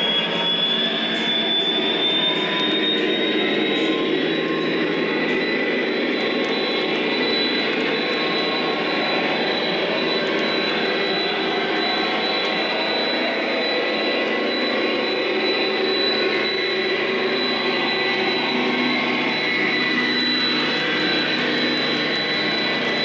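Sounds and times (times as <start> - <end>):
thin high whine: 0.0 - 23.0.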